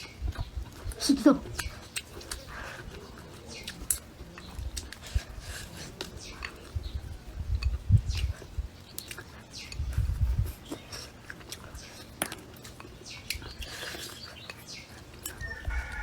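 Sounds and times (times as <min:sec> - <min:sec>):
birds chirping: 0:00.0 - 0:16.0
chewing and crunching: 0:00.0 - 0:16.0.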